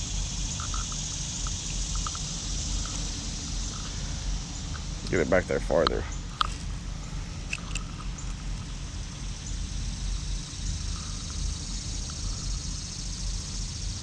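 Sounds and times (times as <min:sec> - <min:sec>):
even hiss: 0:00.0 - 0:14.0
steady low rumble: 0:00.0 - 0:14.0.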